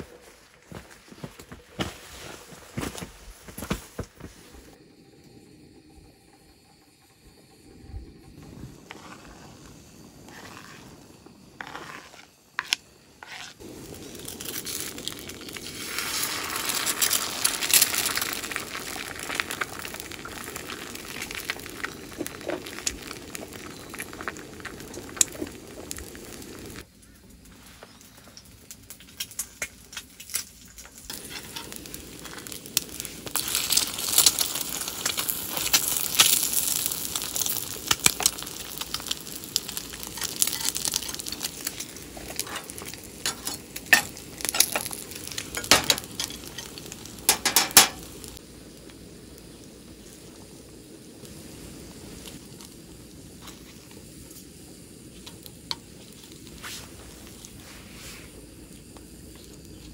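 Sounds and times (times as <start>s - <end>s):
food sizzling in a pan: 7.5s - 26.9s, 30.4s - 59.9s.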